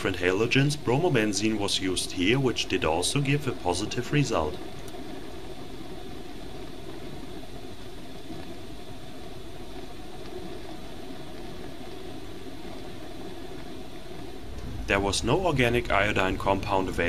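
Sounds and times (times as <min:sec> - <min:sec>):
bunsen burner roaring flame: 0:00.0 - 0:17.0.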